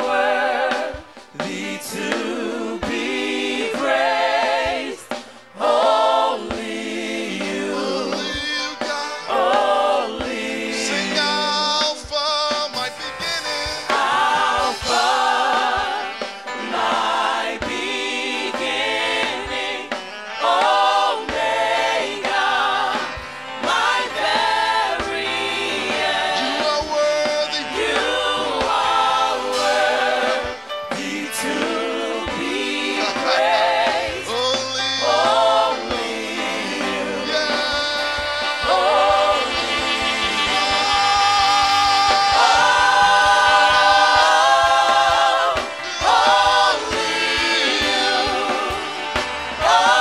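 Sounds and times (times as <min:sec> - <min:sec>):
group singing gospel song: 0:00.0 - 0:50.0
musical accompaniment: 0:00.0 - 0:50.0.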